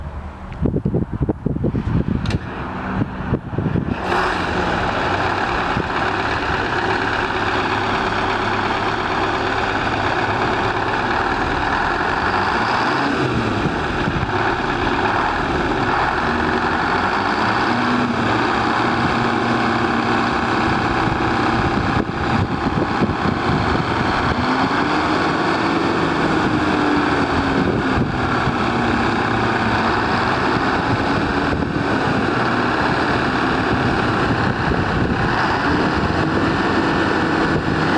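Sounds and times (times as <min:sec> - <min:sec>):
dump truck engine running: 0:00.0 - 0:37.9.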